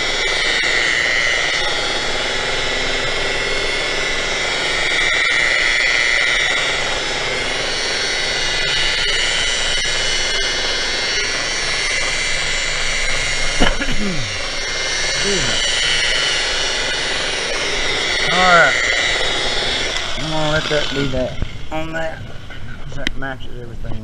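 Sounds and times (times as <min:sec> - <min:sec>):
electric polisher whining: 0:00.0 - 0:23.2.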